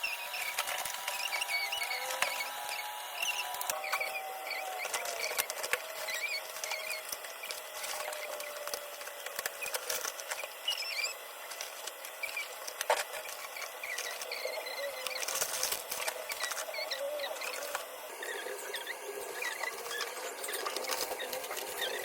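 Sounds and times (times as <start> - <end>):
packaging clicks and rustles: 0.1 - 22.0.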